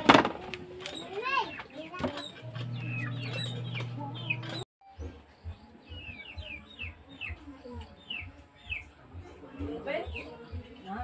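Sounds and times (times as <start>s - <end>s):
birds chirping: 0.9s - 11.0s.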